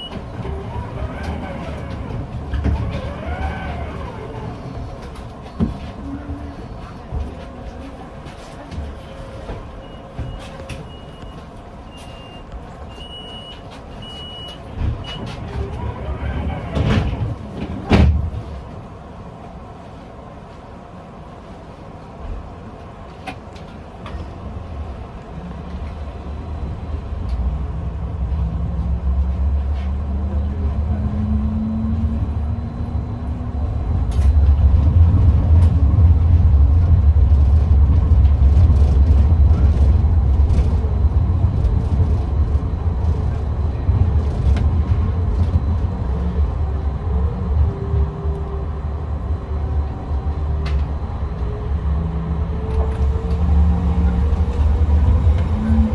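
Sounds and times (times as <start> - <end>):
tram motor whine: 0.0 - 20.5, 21.1 - 55.9
steel wheels rumbling on rails: 0.0 - 55.9.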